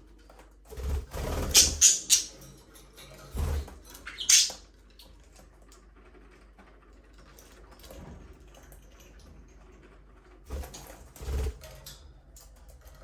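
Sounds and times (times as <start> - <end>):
birds scratching and pattering: 0.0 - 9.9, 10.5 - 13.0.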